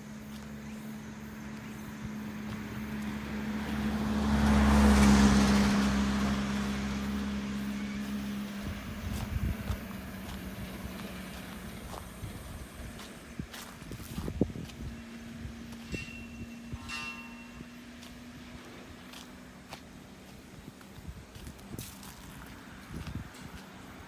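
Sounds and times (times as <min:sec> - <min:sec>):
vehicle driving past: 0:00.0 - 0:24.0.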